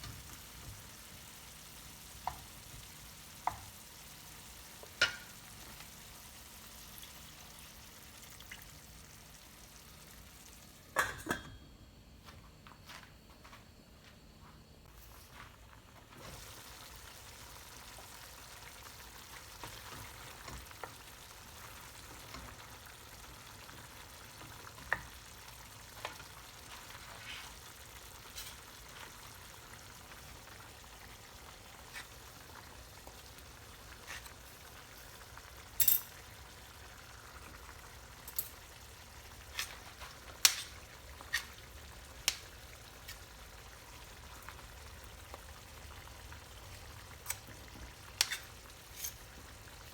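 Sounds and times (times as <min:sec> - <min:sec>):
food sizzling in a pan: 0:00.0 - 0:11.0, 0:15.0 - 0:49.9.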